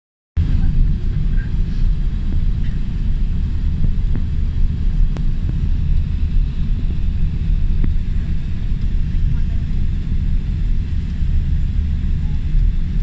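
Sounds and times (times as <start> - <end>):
jet engine cabin rumble: 0.4 - 13.0.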